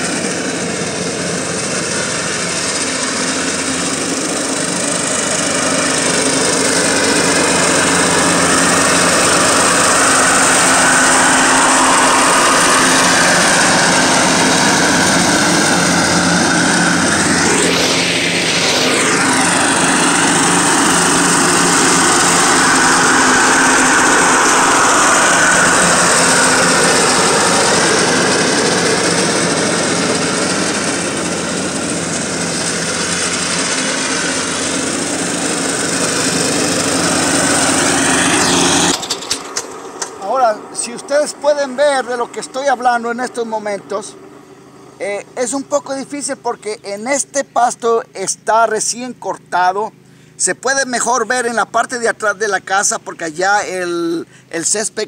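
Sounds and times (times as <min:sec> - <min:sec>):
riding lawn mower running: 0:00.0 - 0:55.0.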